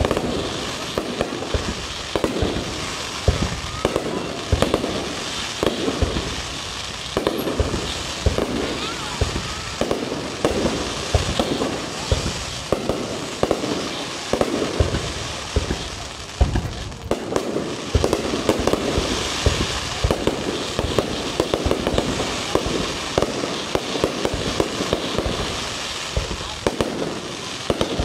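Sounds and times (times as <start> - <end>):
fireworks bangs: 0.0 - 28.0
fireworks crackling: 0.0 - 28.0.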